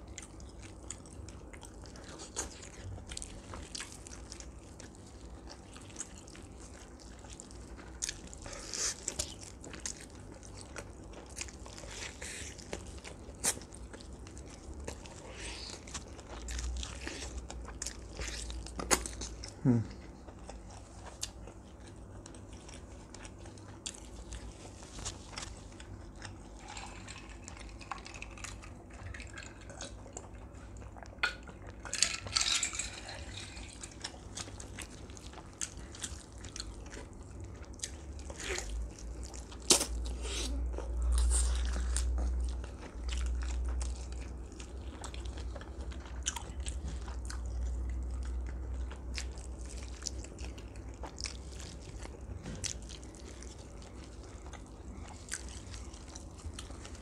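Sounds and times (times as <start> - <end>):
chewing crispy duck skin: 0.0 - 57.0.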